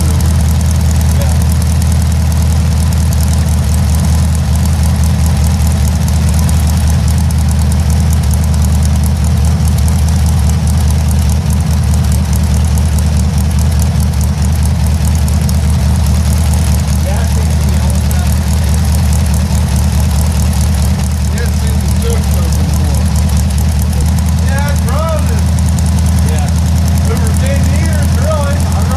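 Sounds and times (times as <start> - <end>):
flat-four engine idling: 0.0 - 28.9.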